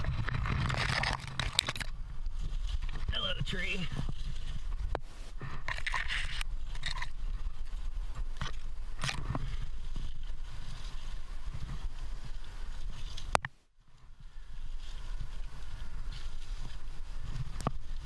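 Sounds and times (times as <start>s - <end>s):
branches scraping and rustling: 0.0s - 18.0s.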